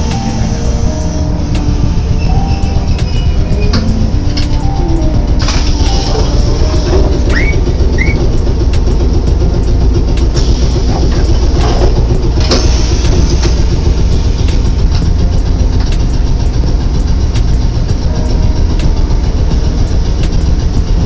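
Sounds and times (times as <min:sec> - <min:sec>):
streetcar rumble on rails: 0:00.0 - 0:21.0.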